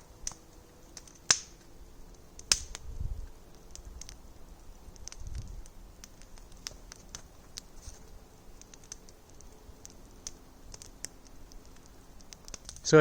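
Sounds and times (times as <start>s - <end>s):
campfire crackling faintly: 0.0s - 13.0s.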